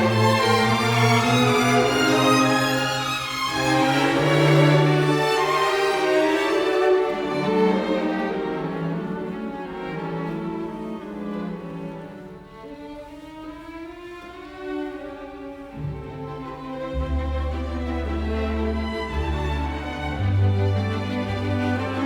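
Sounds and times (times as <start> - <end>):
violin and cello music: 0.0 - 22.0.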